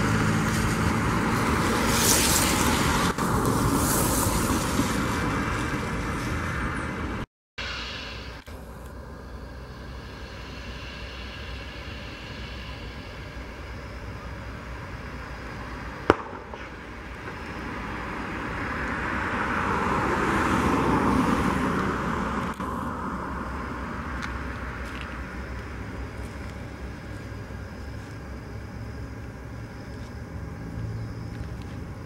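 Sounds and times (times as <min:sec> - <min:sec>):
jet engines taxiing: 0:00.0 - 0:32.0.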